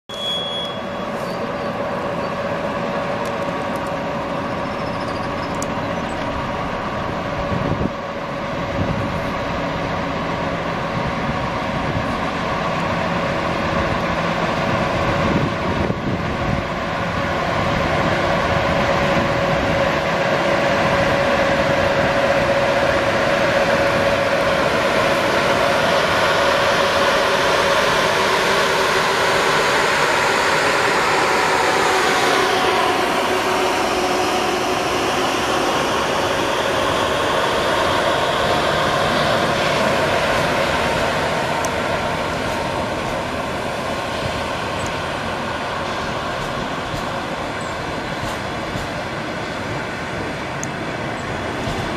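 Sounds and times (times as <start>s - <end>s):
electric locomotive whine: 0.1s - 51.9s.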